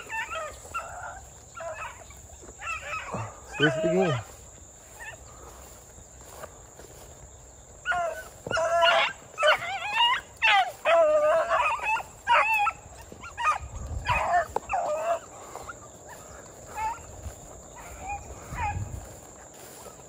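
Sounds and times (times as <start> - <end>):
dogs baying: 0.0 - 20.0.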